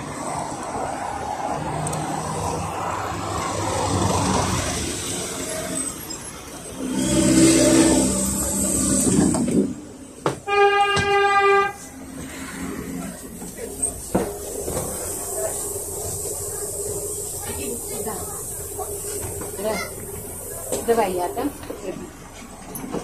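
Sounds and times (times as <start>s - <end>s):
bus engine: 0.0s - 23.0s
road traffic passing: 0.0s - 23.0s.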